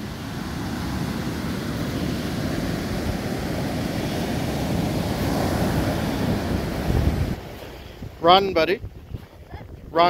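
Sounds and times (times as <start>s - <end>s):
surf breaking on beach: 0.0s - 10.0s
wind buffeting microphone: 0.0s - 10.0s.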